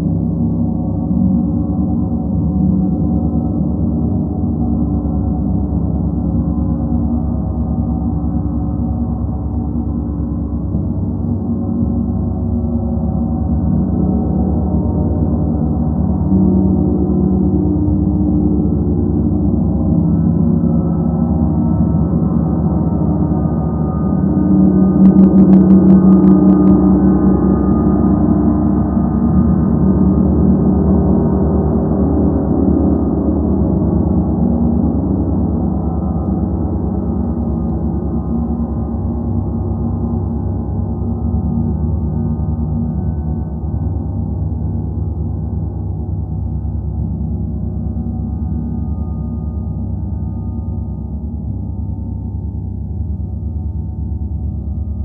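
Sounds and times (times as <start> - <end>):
gongs ringing in a drone: 0.0 - 55.0.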